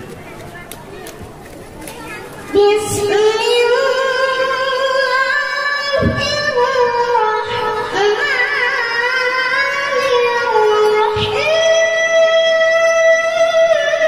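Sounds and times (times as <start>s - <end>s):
boy reciting melodically: 0.0s - 14.0s.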